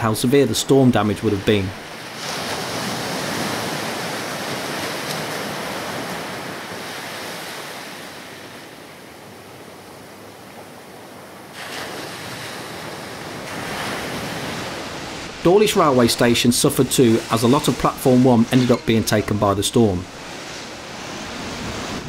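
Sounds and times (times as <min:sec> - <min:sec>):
sea surf breaking: 0:00.0 - 0:22.0
wind: 0:00.0 - 0:22.0.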